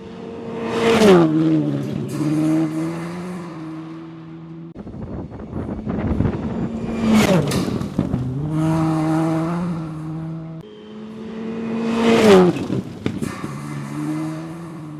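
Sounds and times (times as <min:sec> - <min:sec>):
rally car engine passing: 0:00.0 - 0:14.9.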